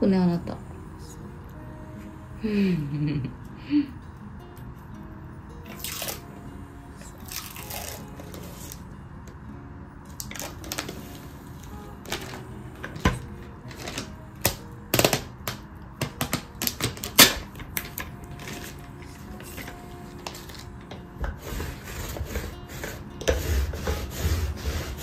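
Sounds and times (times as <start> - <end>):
faint background music: 0.0 - 25.0.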